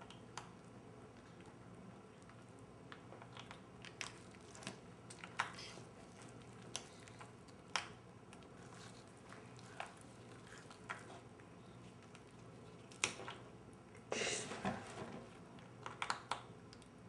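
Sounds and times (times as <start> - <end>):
turtles crunching food: 0.0 - 14.1
faint low hum: 0.0 - 17.0.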